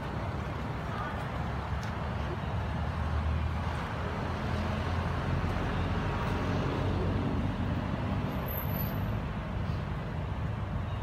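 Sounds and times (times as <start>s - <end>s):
low rumbling outdoor noise: 0.0s - 11.0s.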